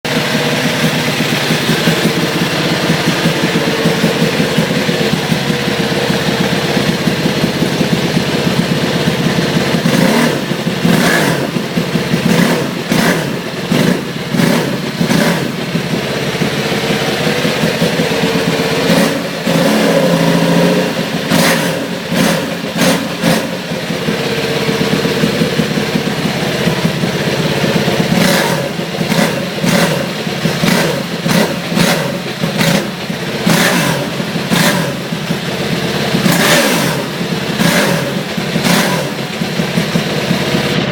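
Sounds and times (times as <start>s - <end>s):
motorcycle engine idling: 0.0s - 40.9s
motorcycle engine revving: 0.0s - 40.9s.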